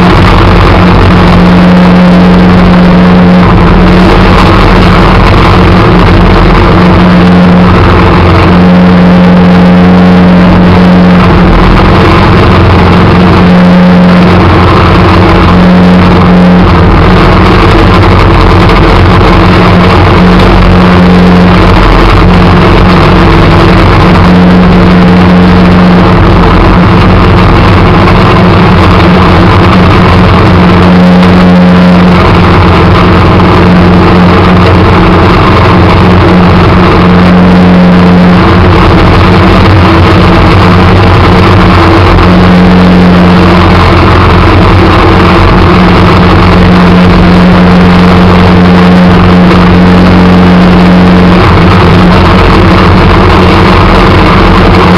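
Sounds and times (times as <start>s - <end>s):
snowplow engine running: 0.0s - 54.9s.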